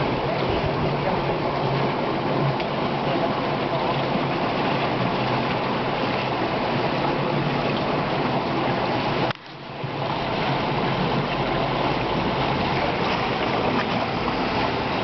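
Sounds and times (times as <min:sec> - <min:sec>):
flowing floodwater: 0:00.0 - 0:15.0.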